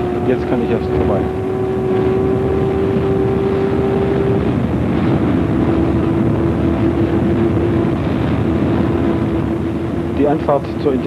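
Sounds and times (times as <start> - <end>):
race car engine running hard: 0.0 - 11.0
road noise: 0.0 - 11.0
wind noise: 0.0 - 11.0.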